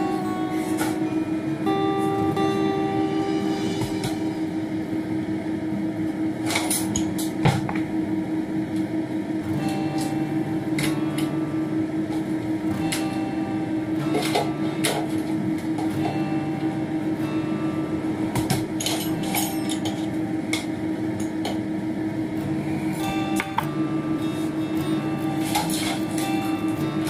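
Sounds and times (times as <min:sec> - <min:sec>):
range hood fan humming: 0:00.0 - 0:27.0.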